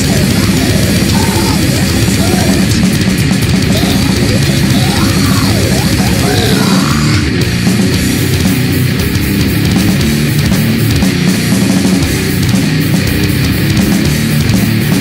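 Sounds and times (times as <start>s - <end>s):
heavily distorted guitar music: 0.0s - 15.0s.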